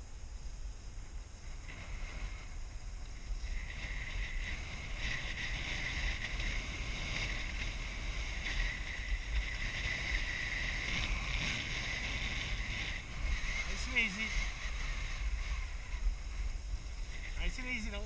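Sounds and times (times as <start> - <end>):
wind rumbling on microphone: 0.0 - 18.0
skis scraping over snow: 1.4 - 18.0.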